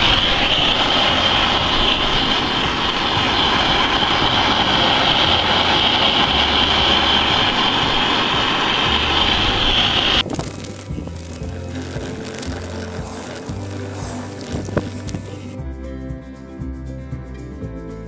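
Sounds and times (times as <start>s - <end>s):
gas torch hissing: 0.0s - 15.6s.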